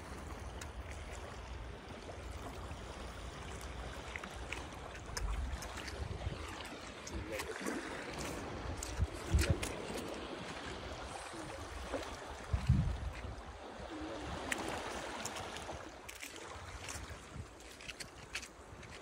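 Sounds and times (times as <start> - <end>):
water lapping against rocks: 0.0 - 19.0.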